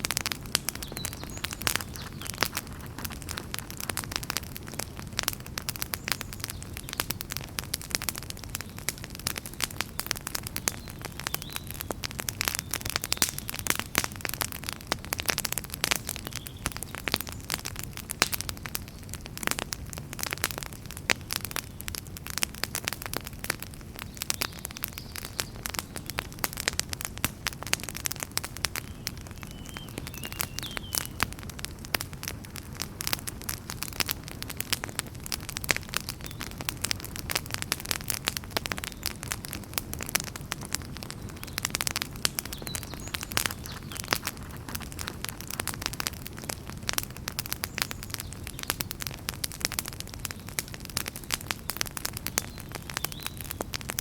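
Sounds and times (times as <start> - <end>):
fire rumble and hiss: 0.0 - 54.0
wood fire crackling and popping: 0.0 - 54.0.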